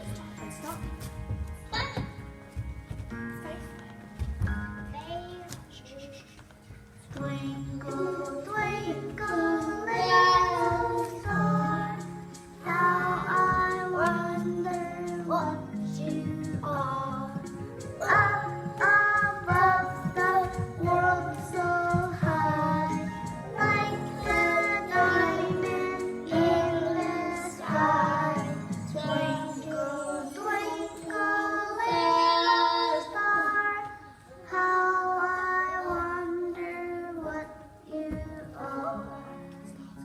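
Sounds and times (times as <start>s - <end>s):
backing track music: 0.0s - 40.0s
children singing: 7.1s - 40.0s.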